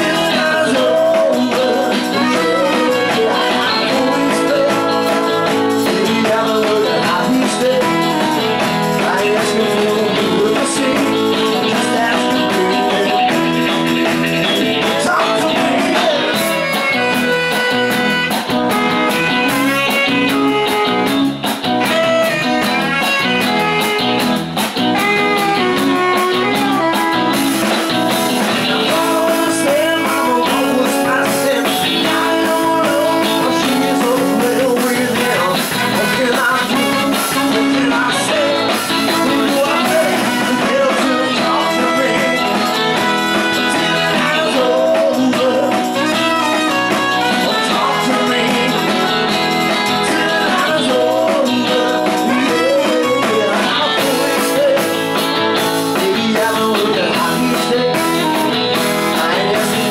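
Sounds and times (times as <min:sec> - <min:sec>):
bass guitar: 0:00.0 - 0:59.9
drums: 0:00.0 - 0:59.9
electric guitars: 0:00.0 - 0:59.9.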